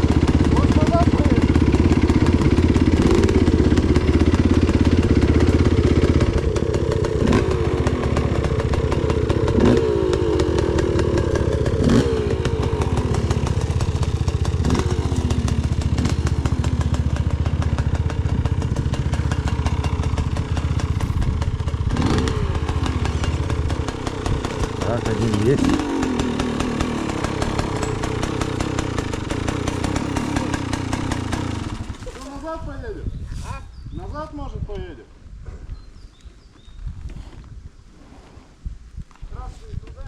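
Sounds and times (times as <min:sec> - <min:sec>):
motorcycle engine revving: 0:00.0 - 0:32.6.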